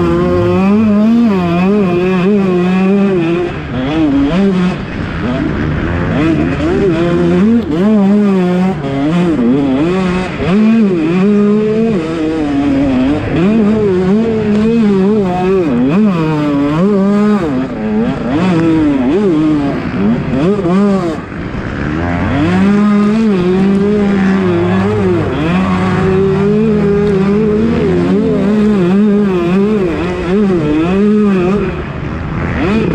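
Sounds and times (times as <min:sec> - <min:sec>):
two-stroke motorcycle engine revving: 0:00.0 - 0:32.9.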